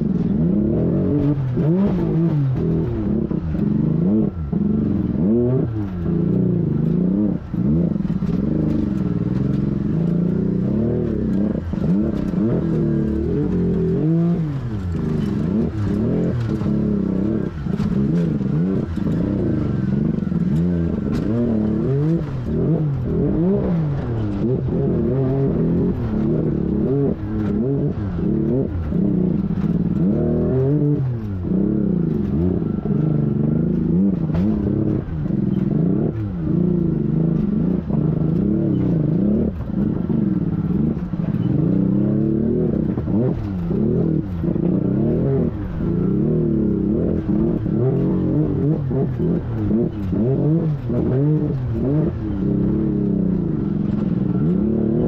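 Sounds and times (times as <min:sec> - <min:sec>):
engine revving: 0:00.0 - 0:55.0
vehicle knocks and clatter: 0:00.0 - 0:55.0.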